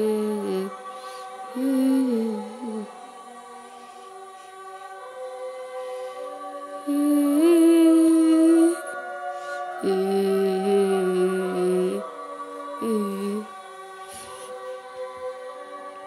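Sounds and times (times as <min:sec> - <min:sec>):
slow music with wordless singing: 0:00.0 - 0:16.0.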